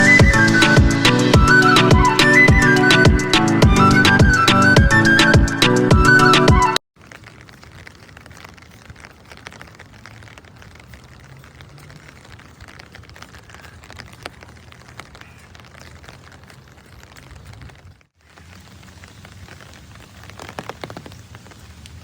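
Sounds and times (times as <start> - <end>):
rain patter: 0.0 - 5.4, 6.0 - 22.0.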